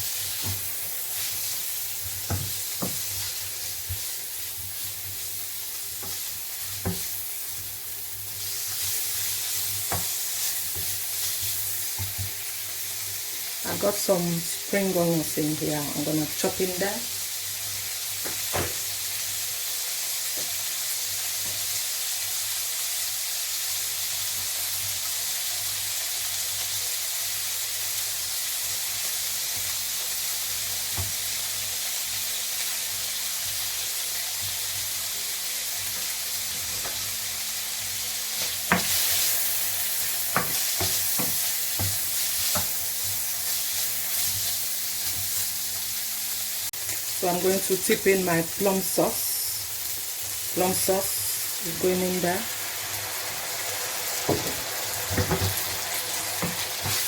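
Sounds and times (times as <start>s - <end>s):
chicken sizzling in a frying pan: 0.0s - 57.0s.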